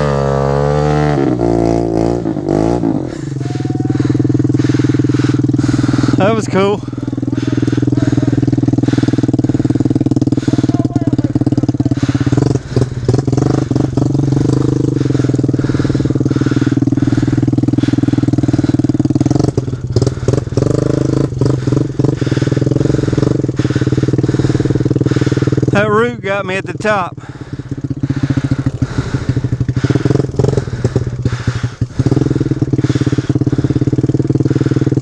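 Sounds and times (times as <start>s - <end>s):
small motorbike engine idling: 1.8s - 35.0s.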